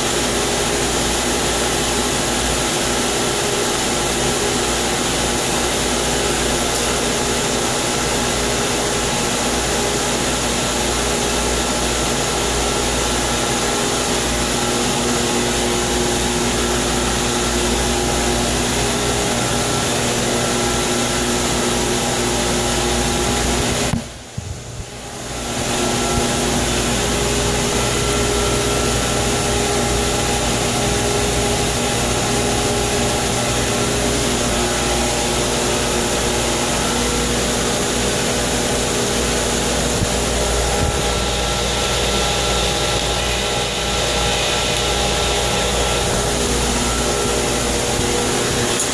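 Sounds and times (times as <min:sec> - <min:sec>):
circulation pump humming: 0:00.0 - 0:48.9.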